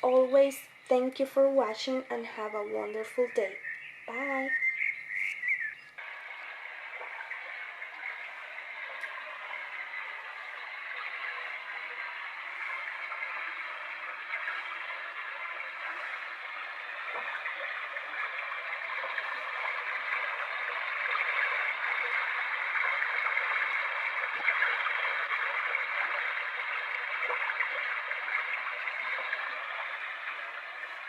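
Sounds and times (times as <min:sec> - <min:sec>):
running water from small speaker: 0:00.0 - 0:31.0.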